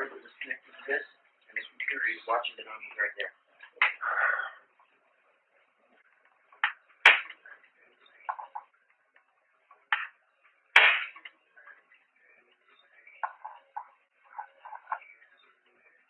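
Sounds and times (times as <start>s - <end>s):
faint muffled sounds: 0.0s - 16.0s.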